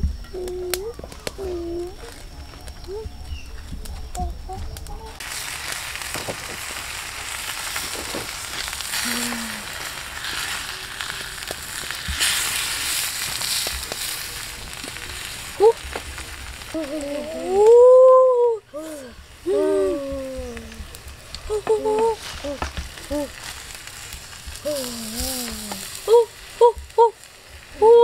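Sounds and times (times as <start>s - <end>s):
chicken sizzling: 4.8s - 28.0s.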